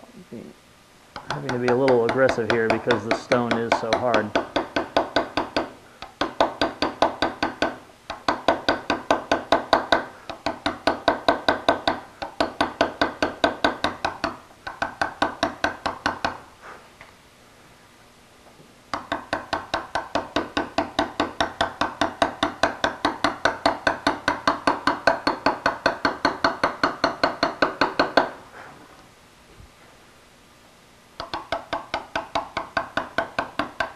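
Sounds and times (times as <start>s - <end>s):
hammer tapping chisel on slate: 1.2s - 16.4s, 18.9s - 28.4s, 31.2s - 33.9s.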